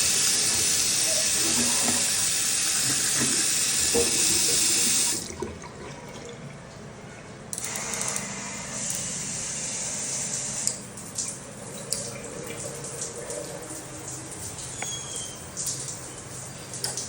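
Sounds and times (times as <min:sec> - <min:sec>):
water running from tap: 0:00.0 - 0:06.4, 0:07.7 - 0:17.0.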